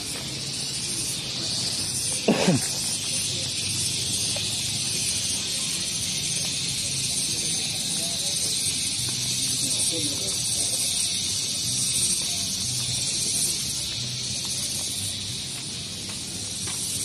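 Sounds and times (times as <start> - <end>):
insects hissing: 0.0 - 17.0.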